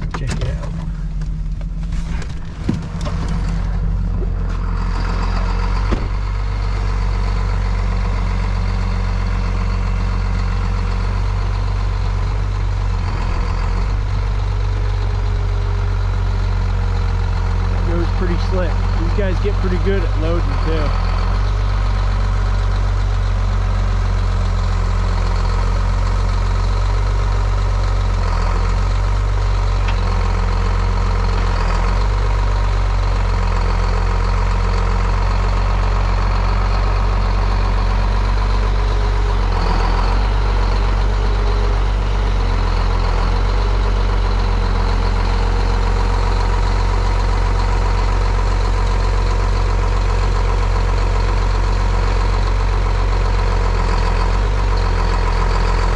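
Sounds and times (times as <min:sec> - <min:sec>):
diesel truck engine running: 0:00.0 - 0:55.9.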